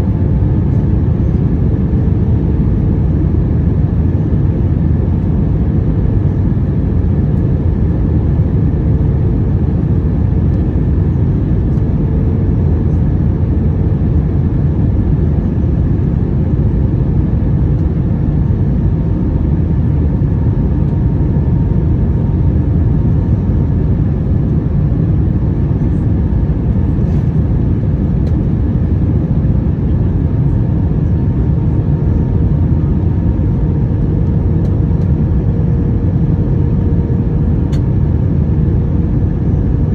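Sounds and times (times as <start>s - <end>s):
airliner engines and airflow rumble: 0.0s - 39.9s
faint steady hum: 0.0s - 39.9s.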